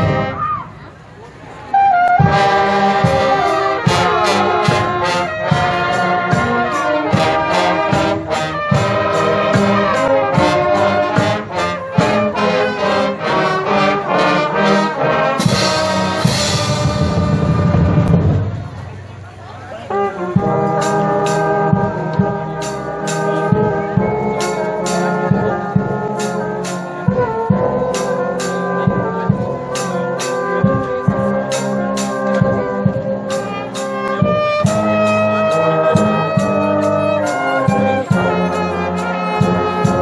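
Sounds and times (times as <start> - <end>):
marching band playing: 0.0 - 40.0.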